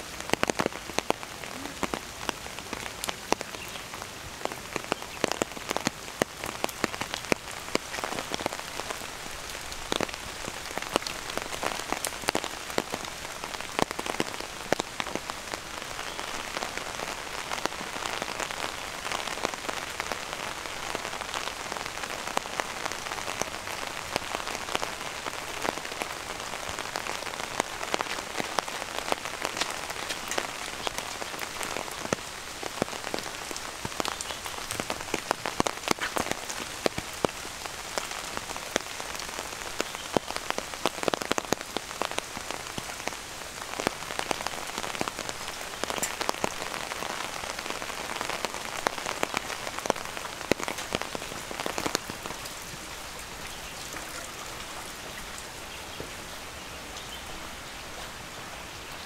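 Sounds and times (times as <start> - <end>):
steady rain falling: 0.0 - 59.0
raindrops tapping: 0.2 - 56.3.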